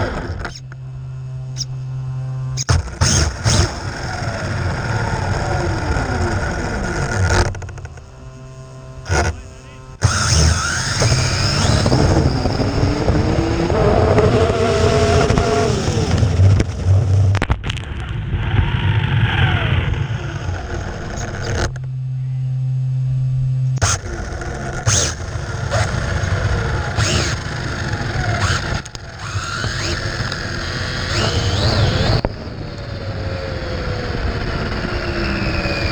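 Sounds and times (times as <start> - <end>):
rc car electric motor whining: 0.0 - 35.9
steady low hum: 0.0 - 35.9.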